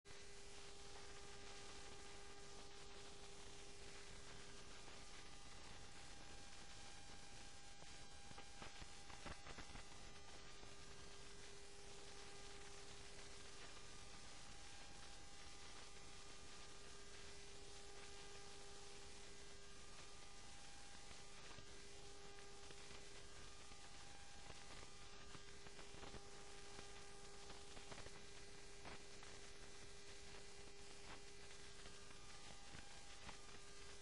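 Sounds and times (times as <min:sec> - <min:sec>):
faint steady hiss: 0:00.1 - 0:34.0
low steady hum: 0:00.1 - 0:34.0.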